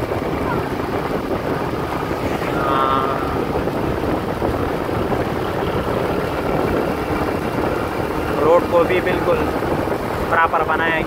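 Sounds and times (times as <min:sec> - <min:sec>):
motorcycle engine and road noise: 0:00.0 - 0:11.0
wind buffeting microphone: 0:00.0 - 0:11.0.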